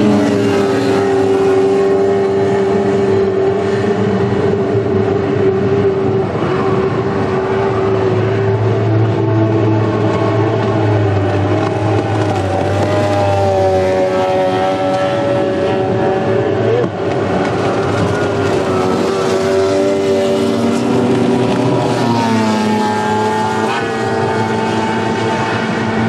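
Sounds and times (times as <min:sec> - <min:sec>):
outboard motors whining: 0:00.0 - 0:26.0.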